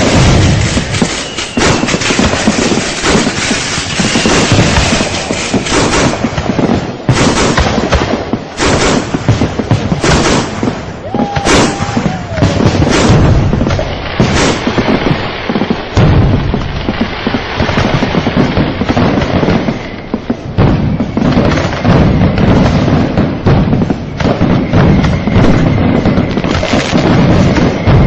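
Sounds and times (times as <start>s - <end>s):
firework whistle: 0.0s - 7.6s, 10.0s - 28.0s
fireworks booms and bangs: 0.0s - 28.0s
fireworks crackle: 0.0s - 28.0s.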